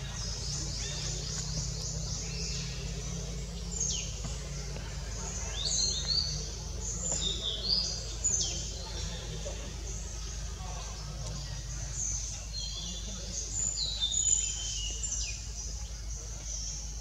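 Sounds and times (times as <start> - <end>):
birds chirping: 0.0 - 17.0
steady low hum: 0.0 - 17.0.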